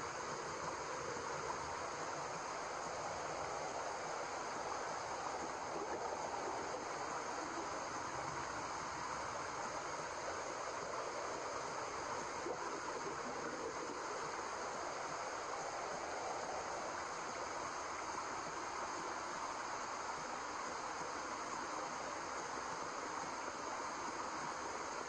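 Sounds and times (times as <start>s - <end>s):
white noise hiss: 0.0s - 25.0s.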